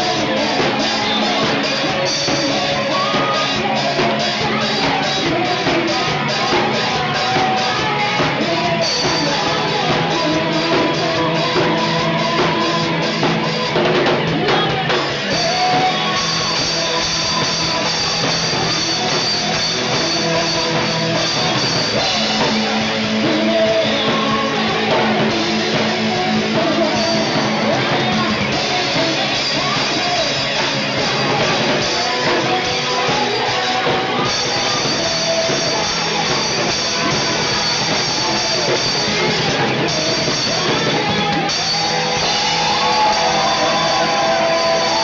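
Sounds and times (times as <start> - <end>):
drum kit: 0.0 - 45.0
guitar: 0.0 - 45.0
person singing: 0.0 - 45.0.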